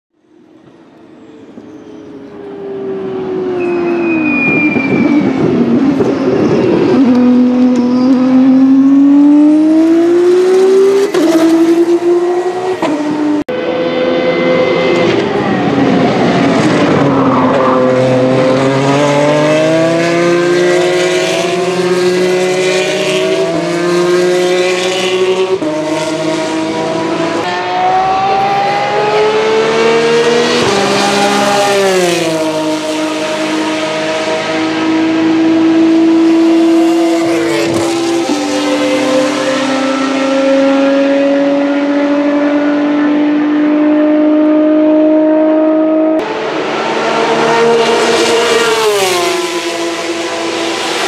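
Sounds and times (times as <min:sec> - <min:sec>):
race car engines revving: 0:00.3 - 0:51.0.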